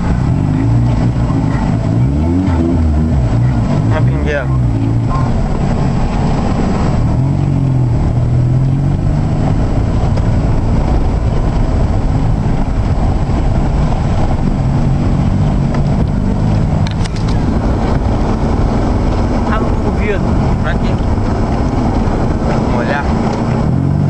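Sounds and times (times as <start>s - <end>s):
flooded river rushing: 0.0s - 24.0s.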